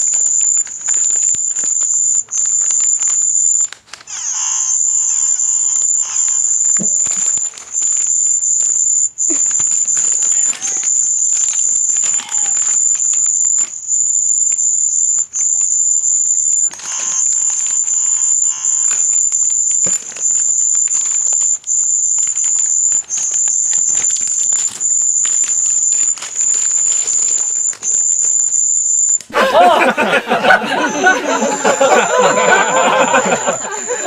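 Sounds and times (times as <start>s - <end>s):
crackly clicks: 0.0s - 29.4s.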